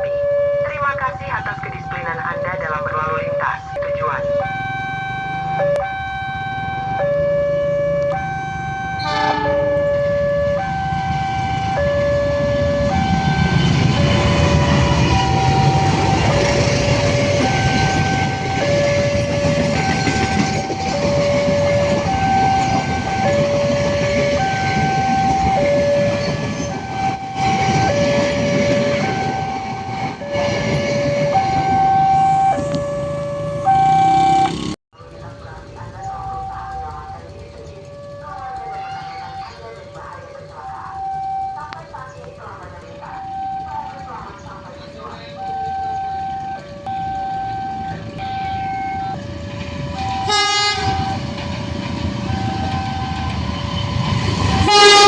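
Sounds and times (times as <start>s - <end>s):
train rumble and wheel noise: 0.0s - 55.0s
two-tone crossing siren: 0.0s - 55.0s.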